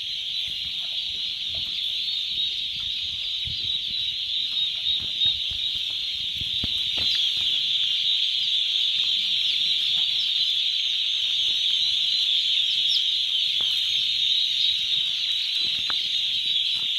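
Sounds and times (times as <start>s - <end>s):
turkey poults peeping: 0.0s - 16.9s.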